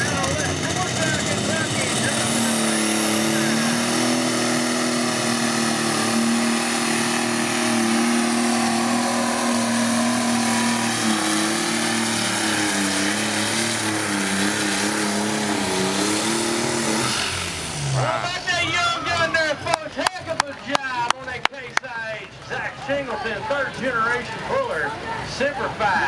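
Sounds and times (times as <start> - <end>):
vehicle engine at full throttle: 0.0 - 21.4.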